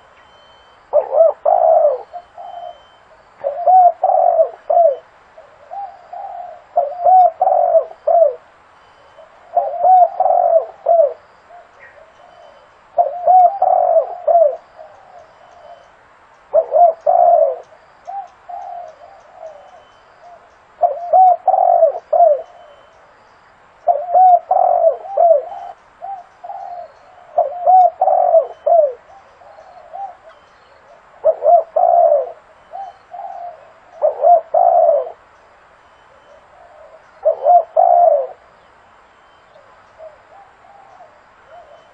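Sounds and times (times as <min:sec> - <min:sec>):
dove cooing: 0:00.0 - 0:15.9, 0:16.5 - 0:23.0, 0:23.8 - 0:35.3, 0:36.1 - 0:38.6, 0:39.5 - 0:41.9.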